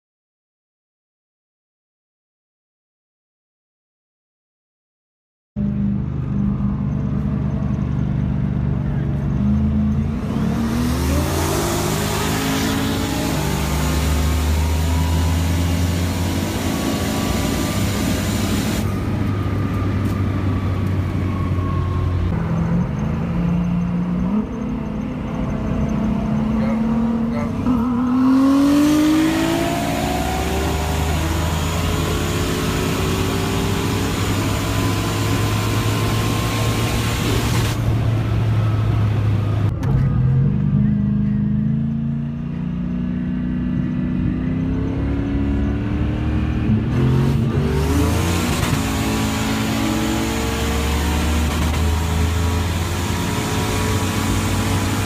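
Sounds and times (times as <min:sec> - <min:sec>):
car engine accelerating: 0:05.6 - 0:55.0
wind and road noise: 0:05.6 - 0:55.0.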